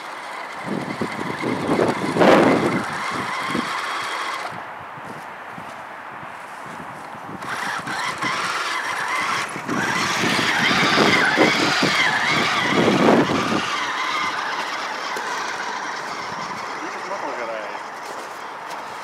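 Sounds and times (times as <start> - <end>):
electric motor whining: 0.0 - 4.6, 7.3 - 18.8.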